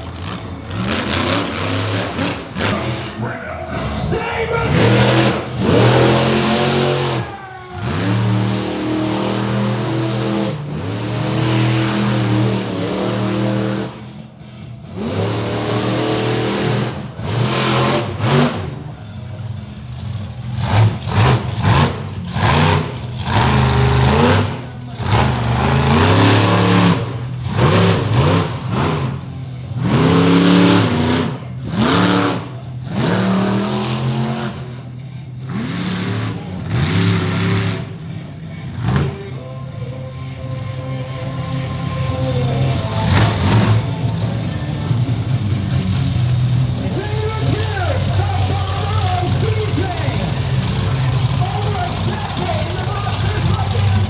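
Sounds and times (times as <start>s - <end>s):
monster truck engine revving: 0.0s - 54.0s.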